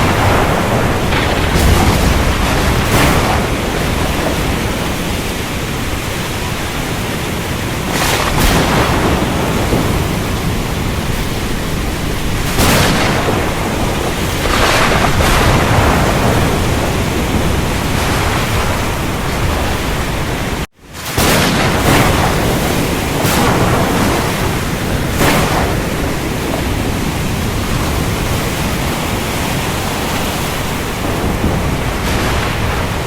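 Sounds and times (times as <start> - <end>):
heavy rain downpour: 0.0 - 33.0
low thunder rumble: 0.0 - 33.0.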